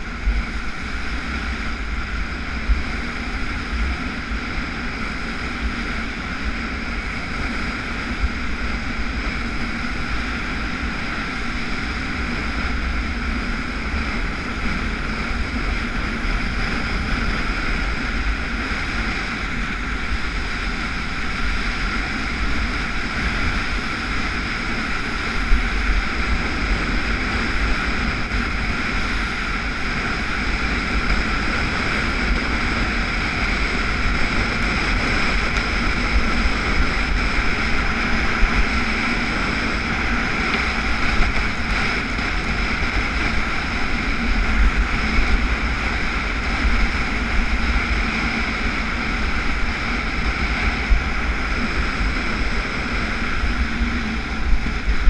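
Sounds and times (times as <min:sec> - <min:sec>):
water ski rushing over water: 0:00.0 - 0:55.0
wind buffeting microphone: 0:00.0 - 0:55.0.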